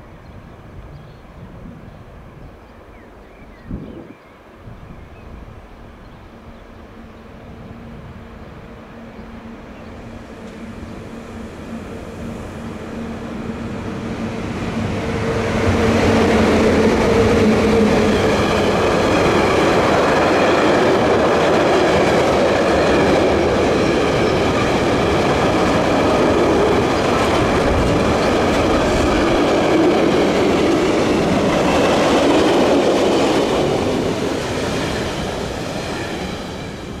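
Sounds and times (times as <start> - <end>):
electric locomotive hum: 4.6 - 37.0.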